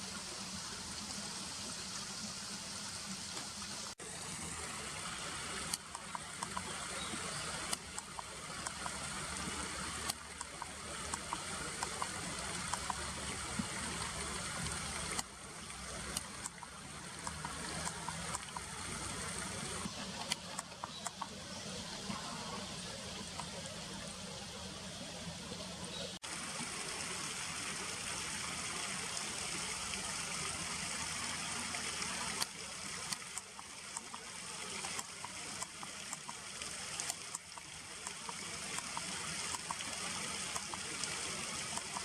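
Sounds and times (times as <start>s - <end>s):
river water running: 0.0s - 42.0s.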